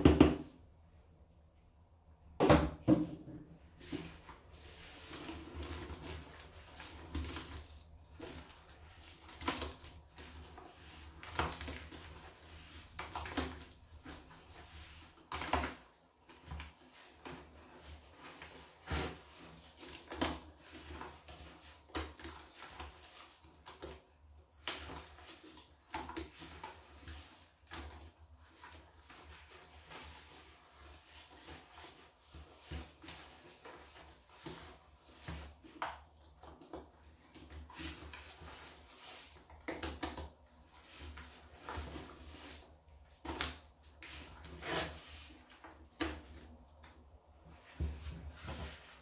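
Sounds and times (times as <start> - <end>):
sponge scrubbing garbage can: 2.9 - 49.0.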